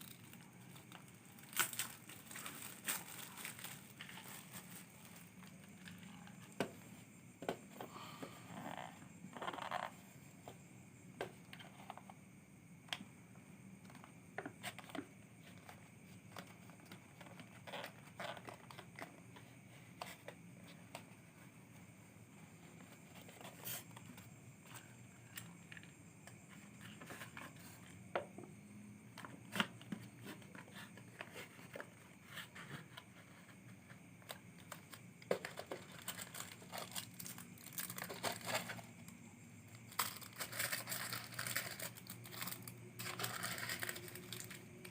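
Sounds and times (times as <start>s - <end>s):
crinkling and rustling: 0.0s - 9.9s, 13.8s - 28.5s, 29.1s - 44.9s.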